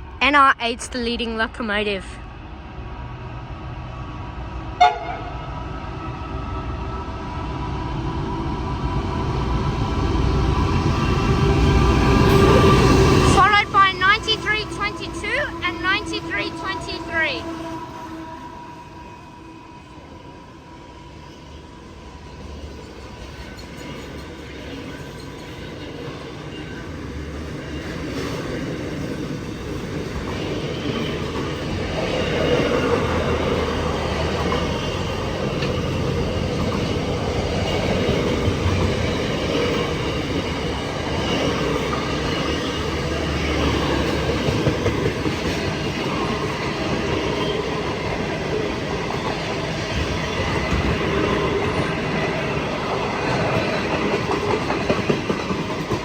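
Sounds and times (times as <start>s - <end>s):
freight train rolling past: 2.0s - 56.0s.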